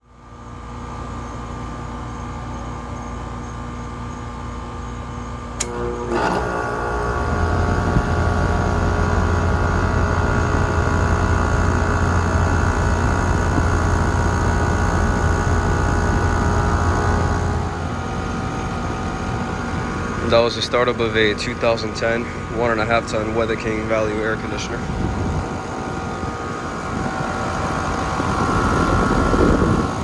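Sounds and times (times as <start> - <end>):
compressor and fan low drone: 0.0 - 30.0
air conditioner hum: 0.1 - 30.0.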